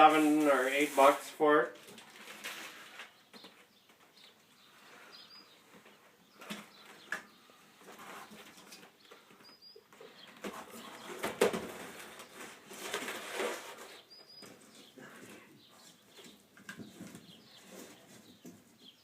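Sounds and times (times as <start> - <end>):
screen mesh rustling and crinkling: 0.0 - 4.4, 7.9 - 19.0.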